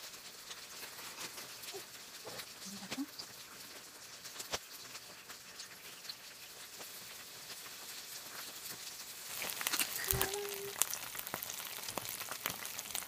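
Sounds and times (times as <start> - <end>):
food sizzling on a hot plate: 0.0 - 13.0
small pops and crackles: 0.0 - 13.0.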